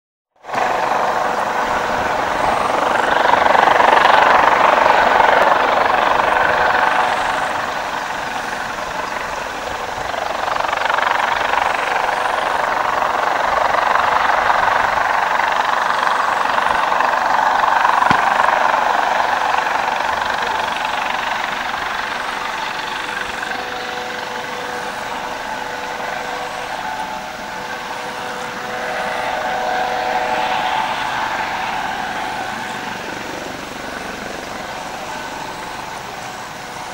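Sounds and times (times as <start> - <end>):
helicopter turbine and rotor: 0.4 - 36.9.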